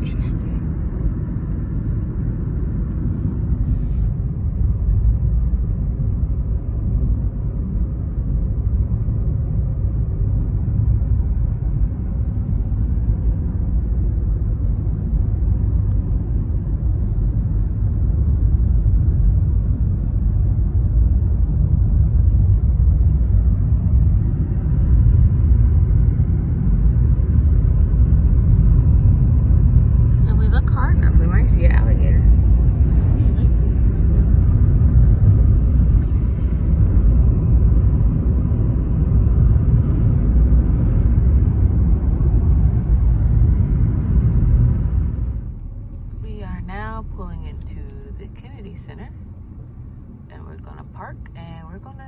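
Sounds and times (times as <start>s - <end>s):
car cabin road and engine rumble: 0.0s - 52.0s.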